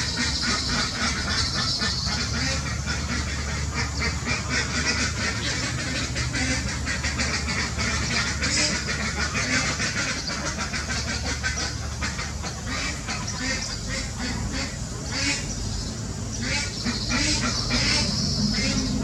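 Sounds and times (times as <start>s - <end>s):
birds giving harsh calls: 0.0s - 19.0s.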